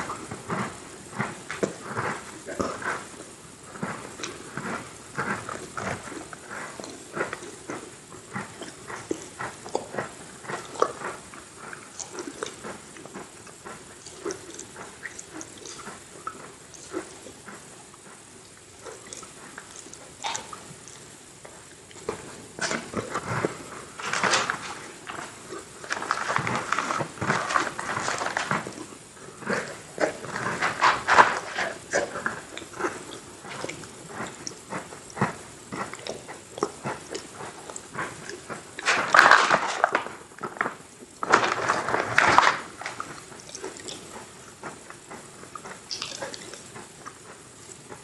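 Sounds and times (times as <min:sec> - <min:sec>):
wet mouth sounds: 0:00.0 - 0:39.7, 0:42.7 - 0:48.0
chewing crunchy cookies: 0:00.0 - 0:48.0.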